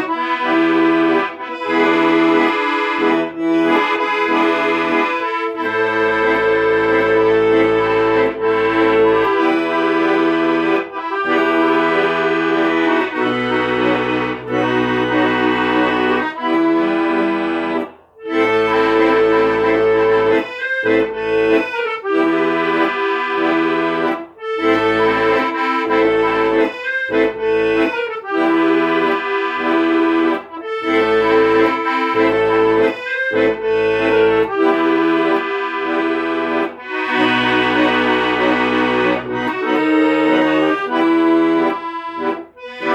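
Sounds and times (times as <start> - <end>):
accordion playing slow tune: 0.0 - 42.9.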